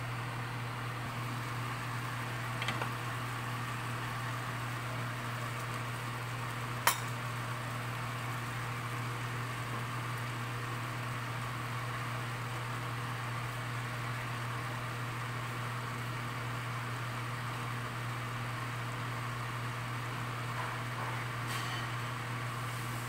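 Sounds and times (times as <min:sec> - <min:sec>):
low mechanical hum: 0:00.0 - 0:23.0
sauce simmering in a pan: 0:01.1 - 0:20.5.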